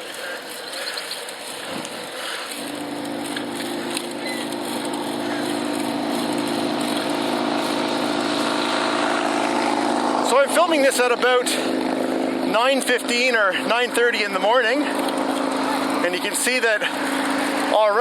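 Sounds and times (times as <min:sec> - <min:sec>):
vehicle engine humming: 0:00.0 - 0:18.0
wind and riding noise: 0:00.0 - 0:18.0.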